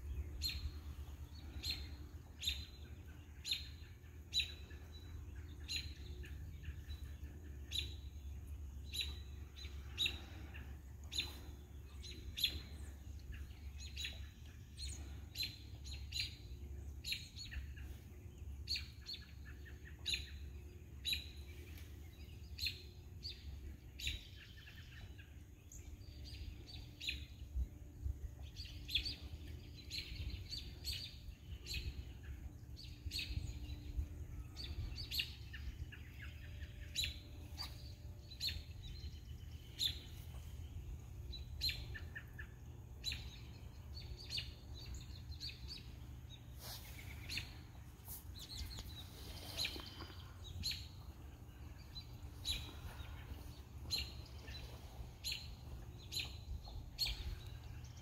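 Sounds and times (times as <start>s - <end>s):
birds chirping: 0.0s - 58.0s
low steady rumble: 0.0s - 58.0s.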